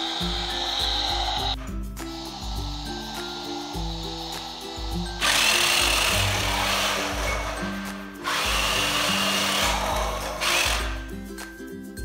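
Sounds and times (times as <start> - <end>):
toy car motor whirring: 0.0 - 11.1
background music: 0.0 - 12.0.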